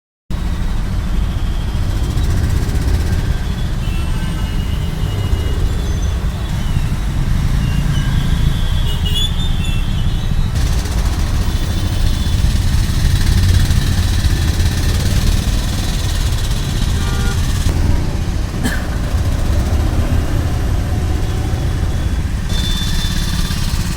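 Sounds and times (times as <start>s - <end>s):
vehicle engines rumbling: 0.3s - 23.9s.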